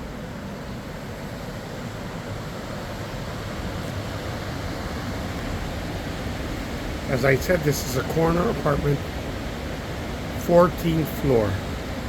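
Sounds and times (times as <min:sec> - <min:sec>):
ocean surf: 0:00.0 - 0:12.0.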